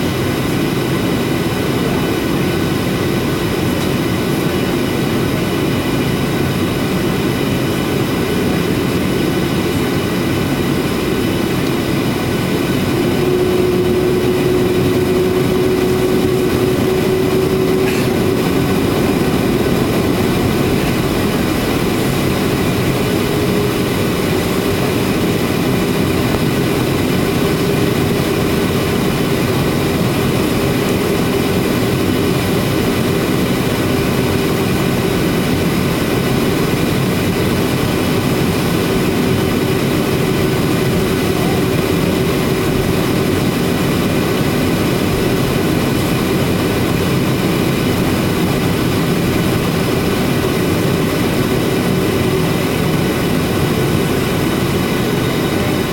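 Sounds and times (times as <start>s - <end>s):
jet engines droning: 0.0s - 55.9s.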